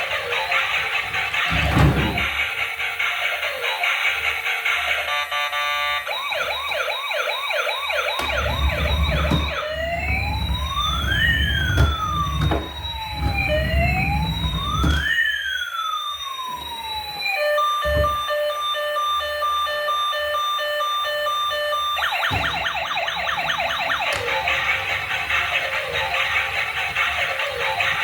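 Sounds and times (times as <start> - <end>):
toy electronic siren: 0.0 - 28.0.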